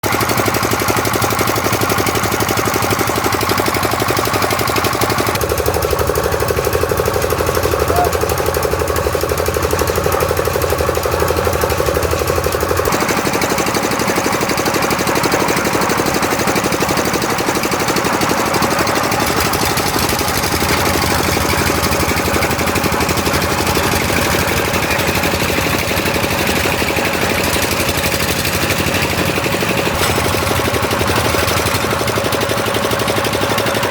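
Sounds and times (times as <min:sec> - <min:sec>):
concrete mixer engine running: 0:00.0 - 0:33.9.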